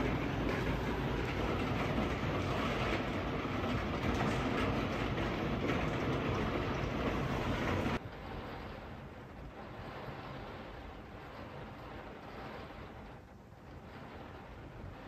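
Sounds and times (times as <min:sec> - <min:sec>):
heavy rain on glass skylight: 0:00.0 - 0:15.0.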